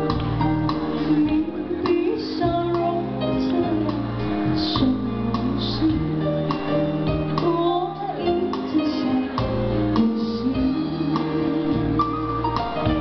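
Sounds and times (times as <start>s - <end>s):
musical accompaniment: 0.0s - 13.0s
woman singing into a microphone: 0.9s - 13.0s.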